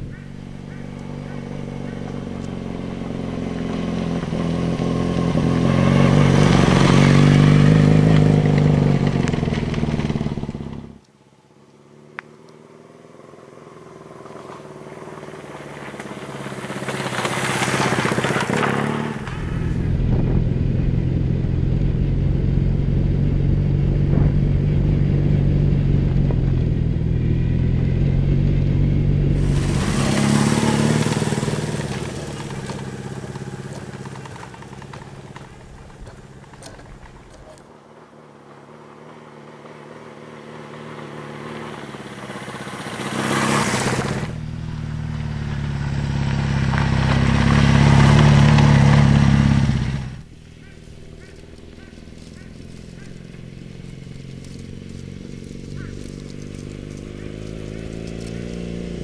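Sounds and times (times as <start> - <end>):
motorcycle passing by: 0.0 - 59.0.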